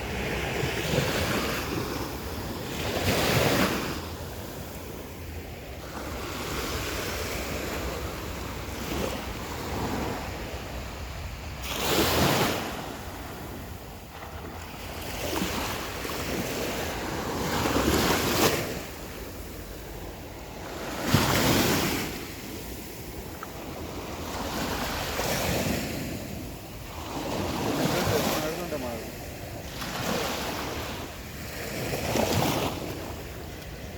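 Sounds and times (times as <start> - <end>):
surf crashing on beach: 0.0 - 33.9.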